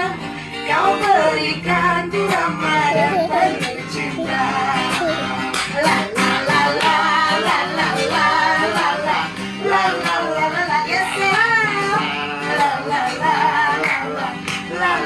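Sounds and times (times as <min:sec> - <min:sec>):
acoustic guitar strumming: 0:00.0 - 0:15.0
man singing: 0:00.0 - 0:15.0
woman singing: 0:00.0 - 0:15.0.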